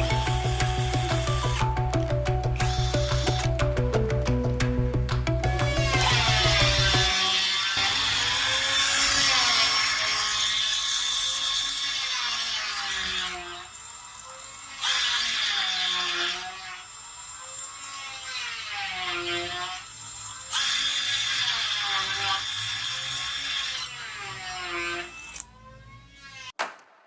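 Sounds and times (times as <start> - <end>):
impact wrench motor whirring: 0.0 - 3.8, 5.4 - 26.6.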